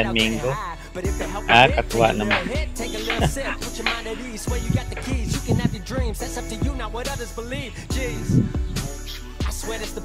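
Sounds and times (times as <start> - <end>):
rapping over a beat: 0.0 - 10.0.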